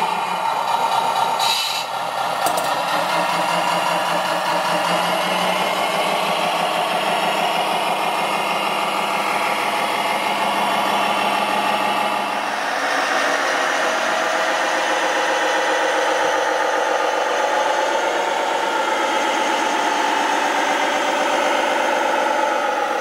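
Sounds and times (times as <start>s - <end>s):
model tractor engine running: 0.0s - 23.0s.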